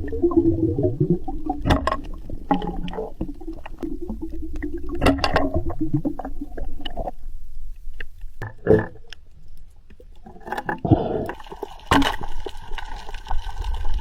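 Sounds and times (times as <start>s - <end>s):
clicks and knocks underwater: 0.0s - 14.0s
underwater gurgling: 0.0s - 14.0s.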